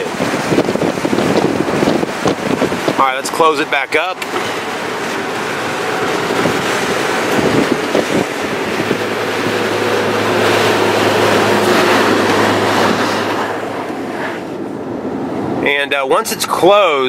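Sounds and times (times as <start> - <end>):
sunroof motor hum: 0.0 - 15.6
wind rushing into car cabin: 0.0 - 15.8.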